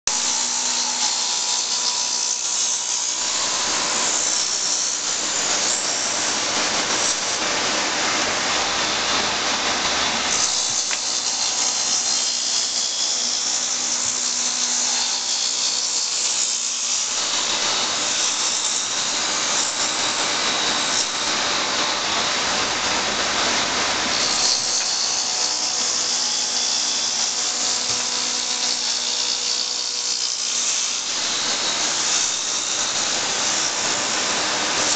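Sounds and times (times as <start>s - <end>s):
lathe cutters whirring on wood: 0.1s - 34.9s.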